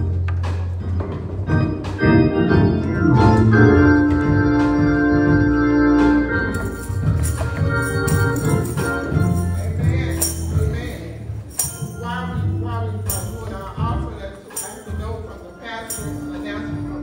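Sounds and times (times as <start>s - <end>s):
organ playing held chords: 0.0s - 17.0s.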